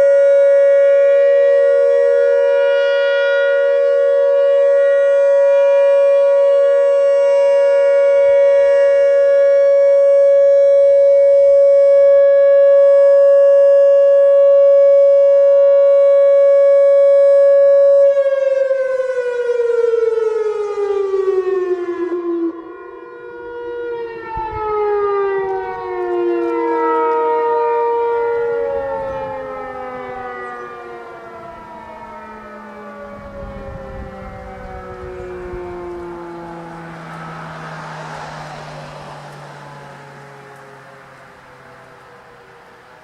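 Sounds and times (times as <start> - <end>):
distant warning siren: 0.0 - 43.0
outdoor warning siren steady tone: 0.0 - 43.0.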